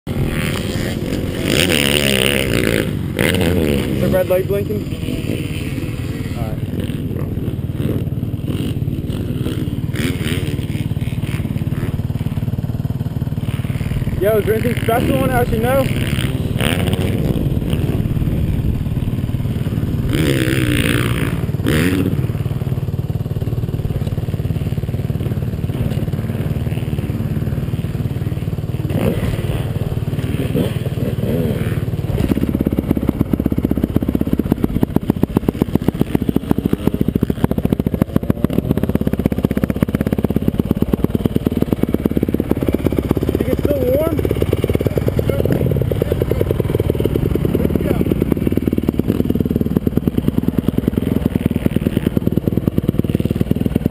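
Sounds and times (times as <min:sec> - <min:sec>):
dirt bike engine idling: 0:00.1 - 0:53.9.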